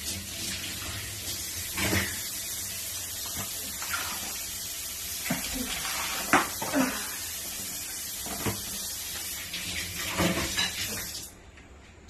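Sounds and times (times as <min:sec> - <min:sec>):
water running from tap: 0:00.0 - 0:11.4.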